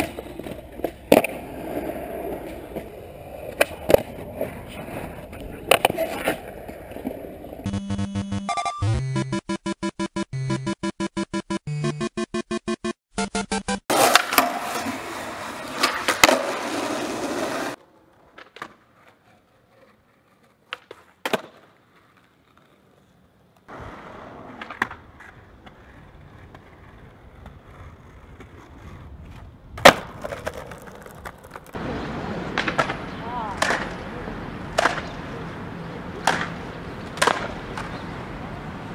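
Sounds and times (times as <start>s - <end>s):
skateboard clacking: 0.0s - 7.7s, 13.9s - 38.9s
skateboard wheels rolling on pavement: 0.0s - 7.7s, 13.9s - 38.9s.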